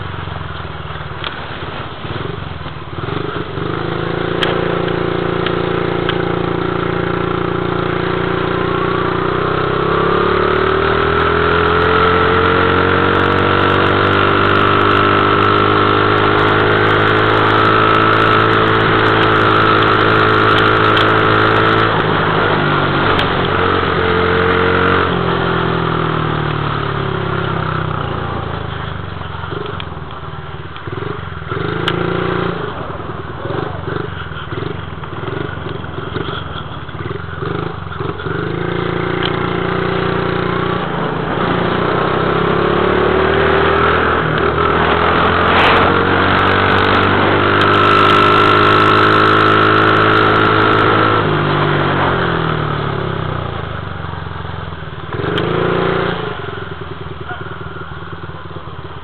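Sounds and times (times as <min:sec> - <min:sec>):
dirt bike engine revving: 0:03.0 - 0:28.6, 0:30.8 - 0:53.2, 0:55.0 - 0:57.4.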